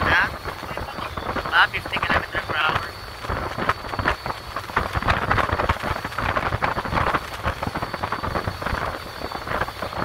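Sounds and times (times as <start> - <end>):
faint high whine: 0.0 - 10.0
wind buffeting microphone: 0.0 - 10.0.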